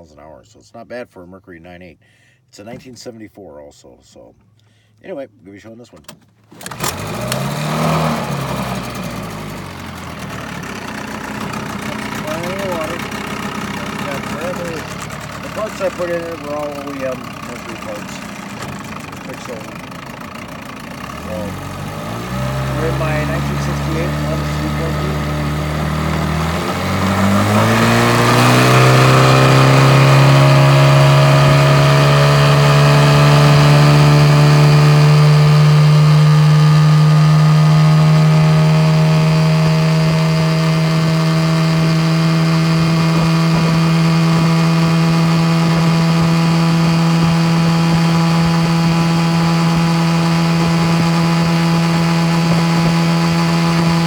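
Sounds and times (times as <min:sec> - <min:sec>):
outboard motor revving: 0:06.6 - 0:54.0.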